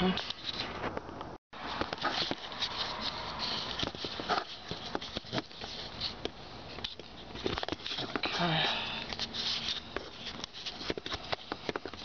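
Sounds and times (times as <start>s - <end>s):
rustling: 1.6s - 12.0s.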